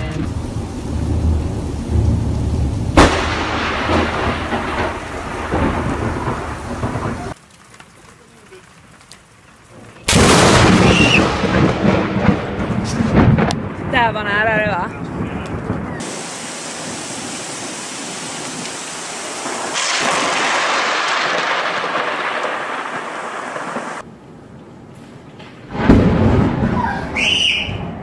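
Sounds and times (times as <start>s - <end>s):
thunder crack rolling: 0.0s - 7.4s, 9.7s - 24.1s, 25.5s - 28.0s
steady rain: 0.0s - 27.2s.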